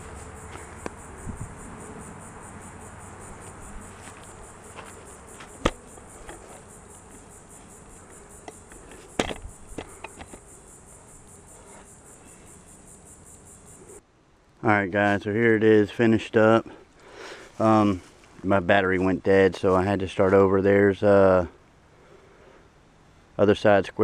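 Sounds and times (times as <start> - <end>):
insects chirping: 0.0 - 23.8.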